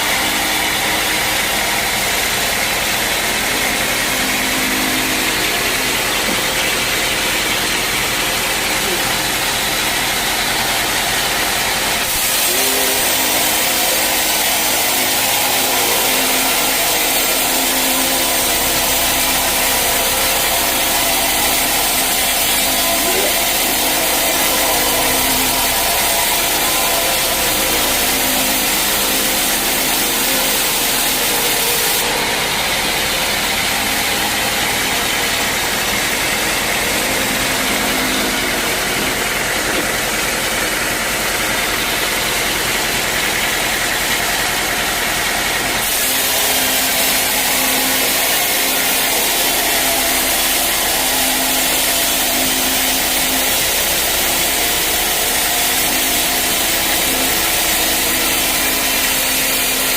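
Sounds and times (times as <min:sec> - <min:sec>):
saw blade cutting log: 0:00.0 - 0:59.9
sawmill saw running: 0:00.0 - 0:59.9.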